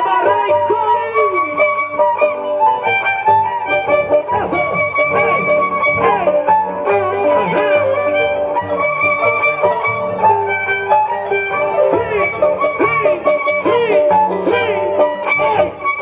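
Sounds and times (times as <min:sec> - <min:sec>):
plucked strings: 0:00.0 - 0:16.0
violins playing folk melody: 0:00.0 - 0:16.0
steady low notes: 0:01.5 - 0:16.0.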